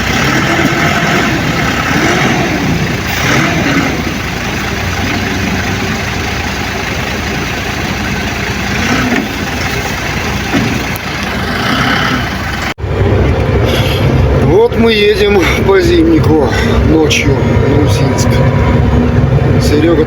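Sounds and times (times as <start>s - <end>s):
deep loud engine: 0.0s - 20.0s
heavy vehicle engine running: 0.0s - 20.0s.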